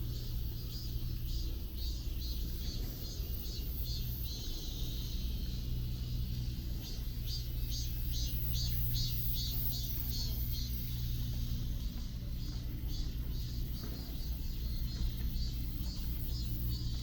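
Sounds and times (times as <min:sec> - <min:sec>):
low rumble of city traffic: 0:00.0 - 0:17.0.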